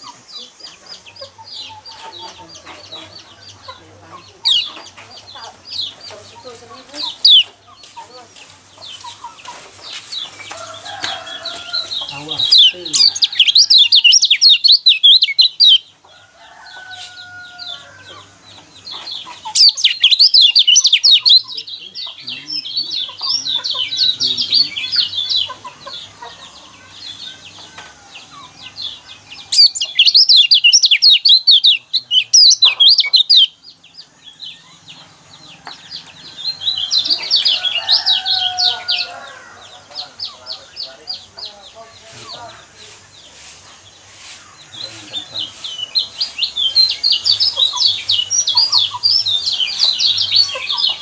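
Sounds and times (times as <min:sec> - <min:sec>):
bird singing chattering trills: 0:00.0 - 0:51.0.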